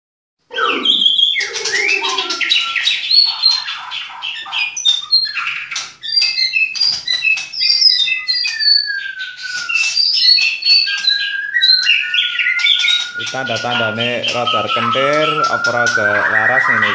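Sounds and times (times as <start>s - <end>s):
bird singing varied song: 0.5s - 16.9s.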